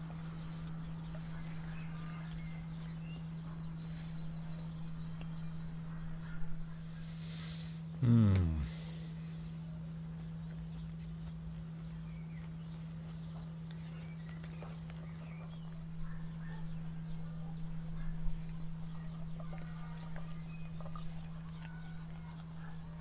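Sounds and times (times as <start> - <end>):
low hum: 0.0 - 23.0
small birds trilling: 0.0 - 23.0.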